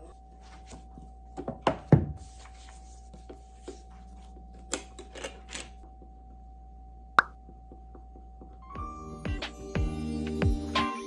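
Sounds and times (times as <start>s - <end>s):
faint steady hum: 0.0s - 10.4s.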